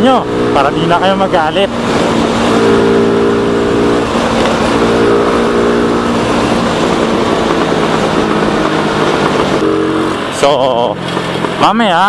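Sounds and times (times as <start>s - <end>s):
motorcycle engine running: 0.0s - 12.0s
wind rush on microphone: 0.2s - 12.0s.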